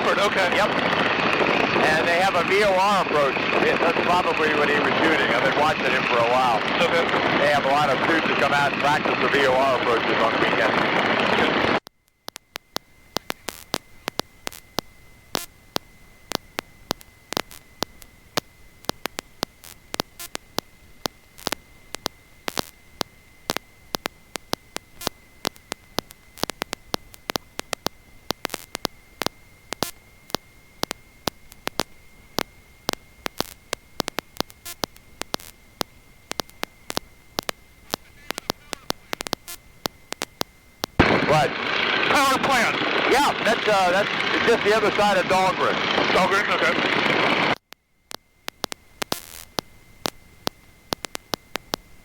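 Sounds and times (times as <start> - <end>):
sharp crackling clicks: 0.0 - 52.0
static hiss: 0.0 - 52.0.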